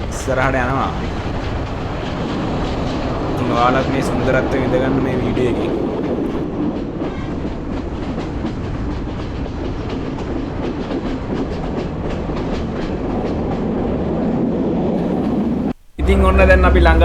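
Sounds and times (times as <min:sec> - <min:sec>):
wheels clicking over rails: 0:00.0 - 0:14.0
train rumbling: 0:00.0 - 0:17.0.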